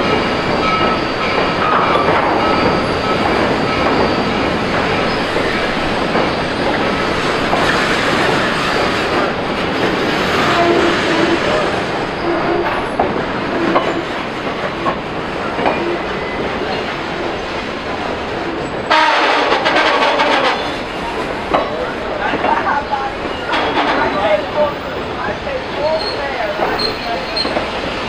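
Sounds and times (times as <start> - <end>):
train wheels rumbling and clattering: 0.0 - 28.0.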